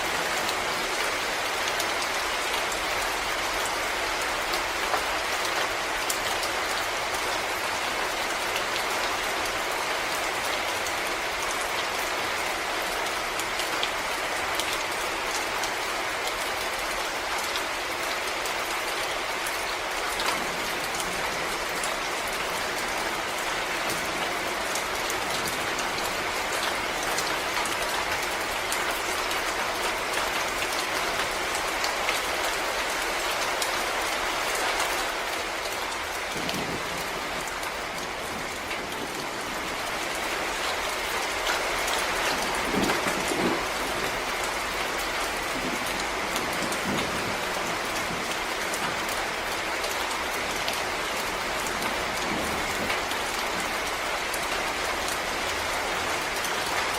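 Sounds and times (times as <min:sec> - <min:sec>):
rain drops ticking on leaves: 0:00.0 - 0:56.9.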